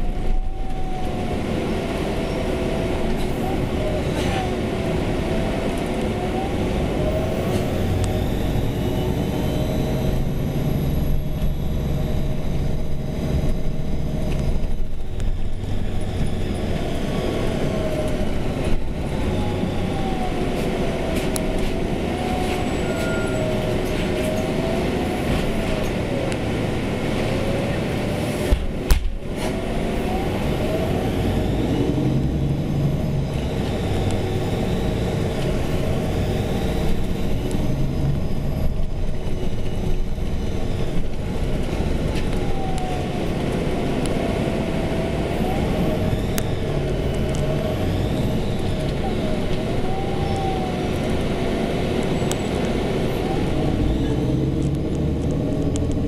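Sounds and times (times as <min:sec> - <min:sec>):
bus engine drone and whine: 0:00.0 - 0:56.0.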